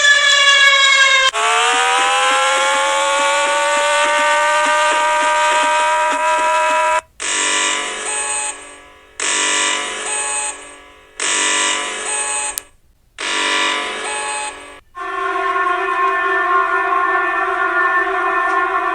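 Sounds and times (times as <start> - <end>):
steady alarm tone: 0.0 - 12.6, 13.2 - 18.9
electronic alarm buzzer blasts: 0.0 - 18.9.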